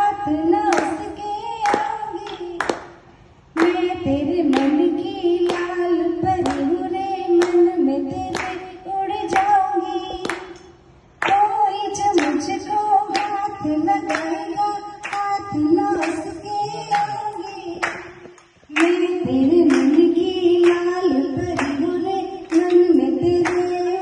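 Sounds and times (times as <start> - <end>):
woman singing into microphone: 0.0 - 2.8, 3.6 - 10.6, 11.2 - 24.0
people clapping along: 0.6 - 24.0.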